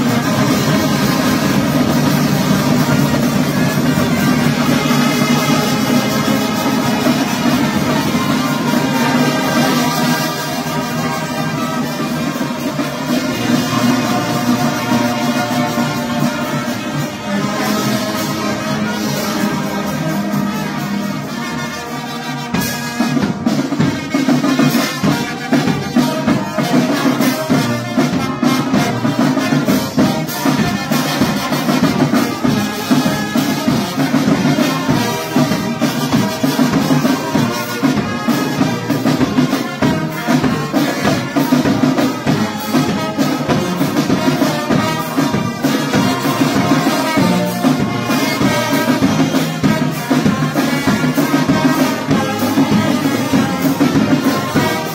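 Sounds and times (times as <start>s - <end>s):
brass instruments: 0.0s - 54.9s
steady drum beat: 0.0s - 54.9s.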